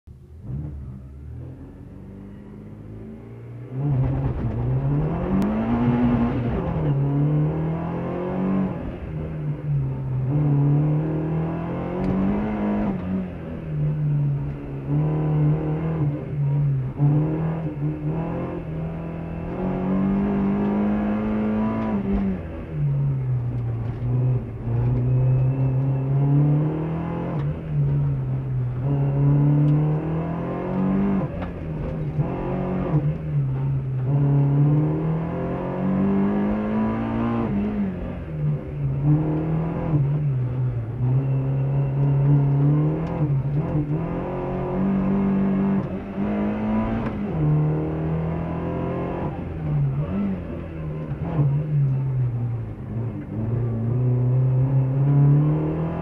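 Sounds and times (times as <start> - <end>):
race car engine revving: 0.4 - 56.0.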